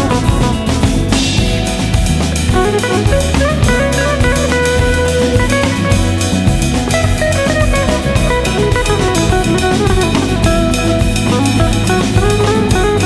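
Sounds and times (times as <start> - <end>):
drum kit beat: 0.0 - 13.0
guitar: 0.0 - 13.0.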